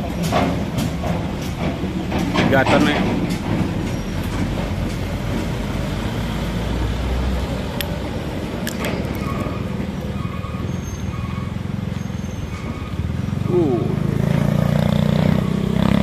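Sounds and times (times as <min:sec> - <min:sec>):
truck engine pulling away: 0:01.2 - 0:16.0.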